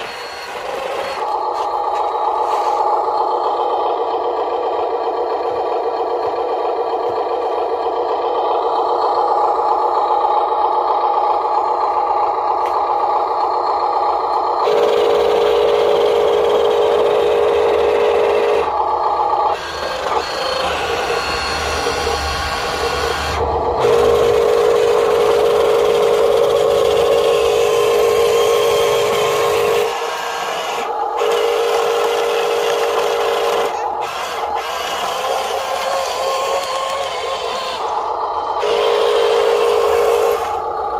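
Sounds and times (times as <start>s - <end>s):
toy truck motor whining: 0.0s - 40.9s.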